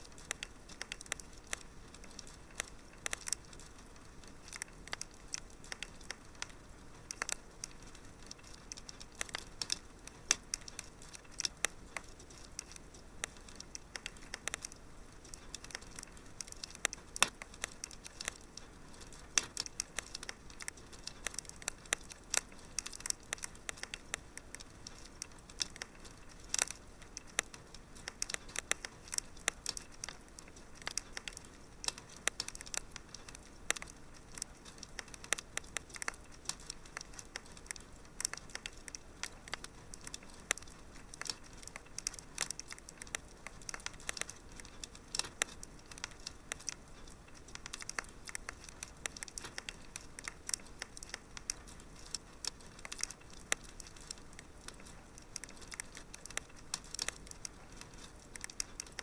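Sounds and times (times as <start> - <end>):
faint steady hiss: 0.0 - 59.0
wood fire crackling: 0.0 - 59.0.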